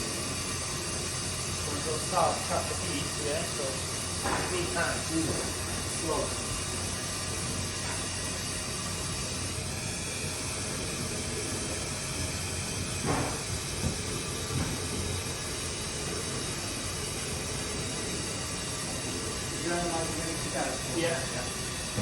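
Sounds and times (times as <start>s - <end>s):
gas boiler hissing: 0.0s - 22.0s.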